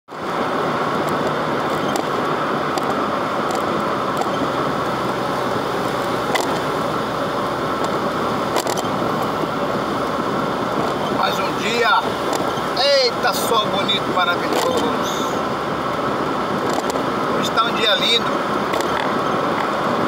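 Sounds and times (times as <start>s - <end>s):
road and engine noise in car cabin: 0.1s - 20.0s.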